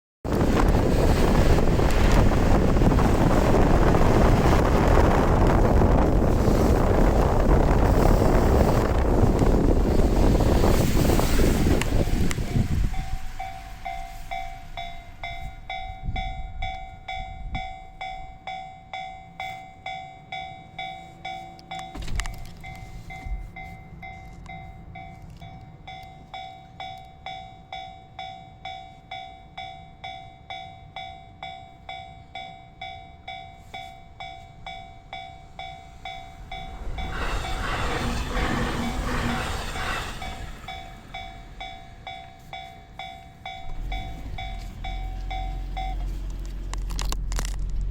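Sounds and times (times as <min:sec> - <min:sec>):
approaching train rumble: 0:00.2 - 0:47.9
railroad crossing bell ringing: 0:00.4 - 0:46.4.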